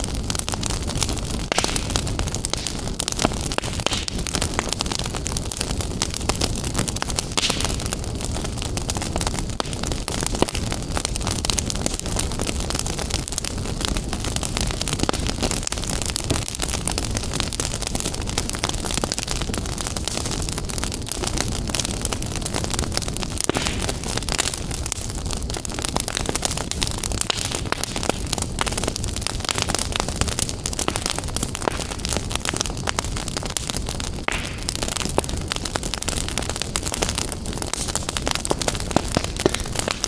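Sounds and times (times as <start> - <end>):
fire crackles and pops: 0.0 - 40.0
wood fire burning: 0.0 - 40.0.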